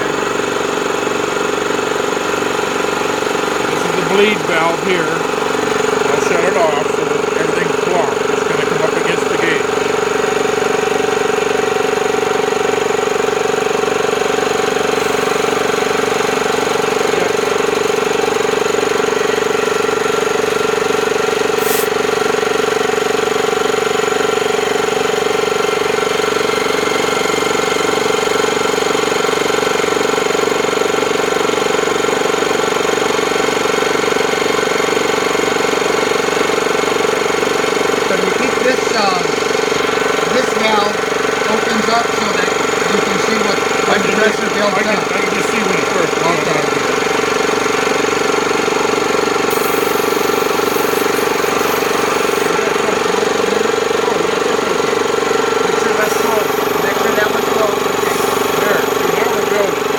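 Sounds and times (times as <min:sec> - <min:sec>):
air compressor humming: 0:00.0 - 0:59.9.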